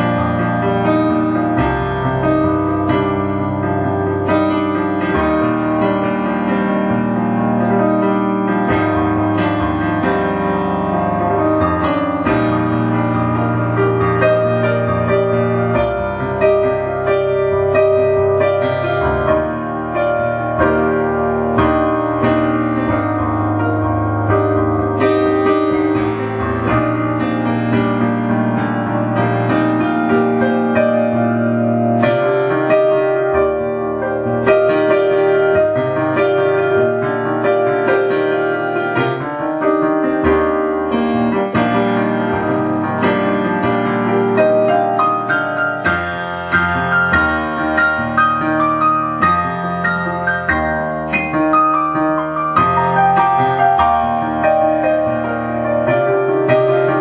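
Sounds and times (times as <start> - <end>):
solo piano-toned keyboard: 0.0 - 57.0.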